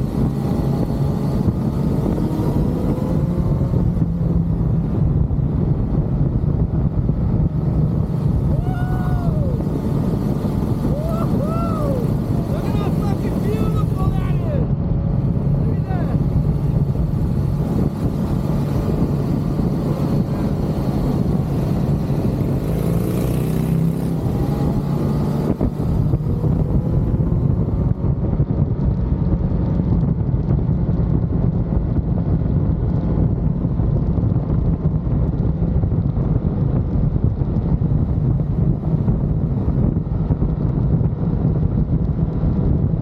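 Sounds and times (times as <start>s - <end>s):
motorcycle engine running: 0.0s - 43.0s
wind rush on microphone: 0.0s - 43.0s.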